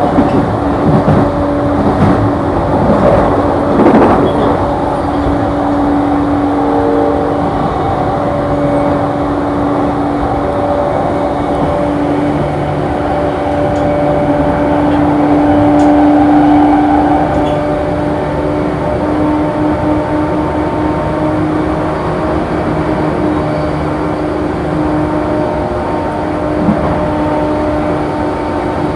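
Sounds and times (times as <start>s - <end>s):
electric train running rumble: 0.0s - 28.9s.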